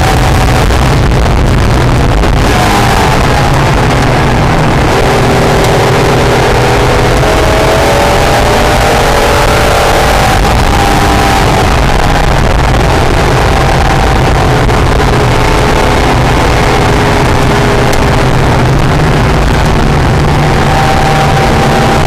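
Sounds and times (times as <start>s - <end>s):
car engine at speed: 0.0s - 22.0s
wind and road noise: 0.0s - 22.0s.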